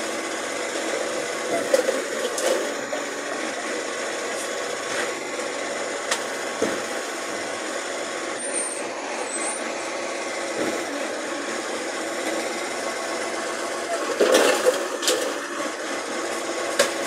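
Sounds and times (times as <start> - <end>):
garbage truck running: 0.0 - 17.0.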